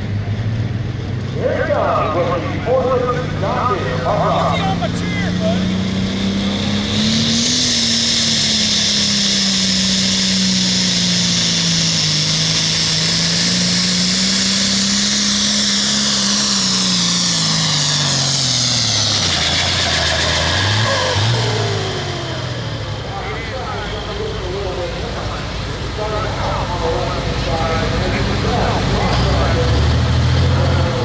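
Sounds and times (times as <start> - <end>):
tractor diesel engine at full throttle: 0.0 - 31.0
high whine: 1.3 - 31.0.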